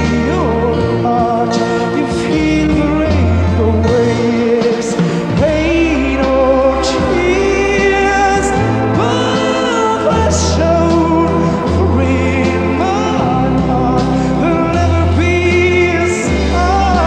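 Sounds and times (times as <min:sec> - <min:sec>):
bass line: 0:00.0 - 0:17.0
man singing: 0:00.0 - 0:17.0
organ chords: 0:00.0 - 0:17.0.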